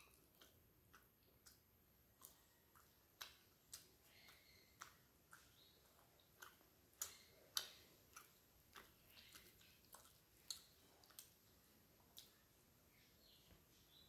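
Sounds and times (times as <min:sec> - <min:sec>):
wet mouth clicks and lip smacks: 0:00.0 - 0:12.4
close chewing: 0:00.0 - 0:12.6.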